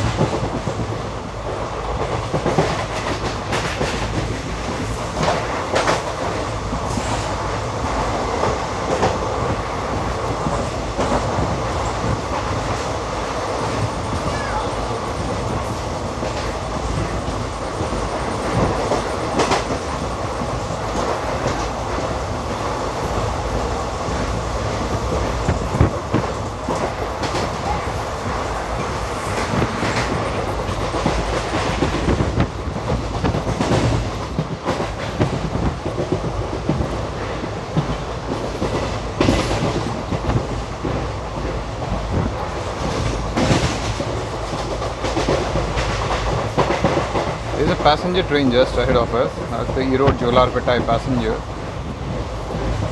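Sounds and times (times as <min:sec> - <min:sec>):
train coaches rumbling and rattling: 0:00.0 - 0:52.9.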